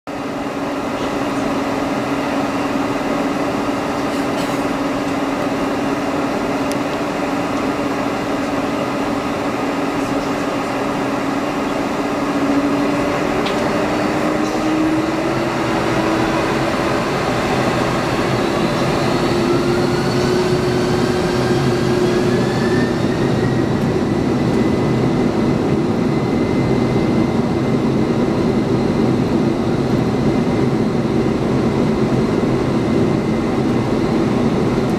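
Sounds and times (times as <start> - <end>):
jet engines humming and whining: 0.1 - 34.9.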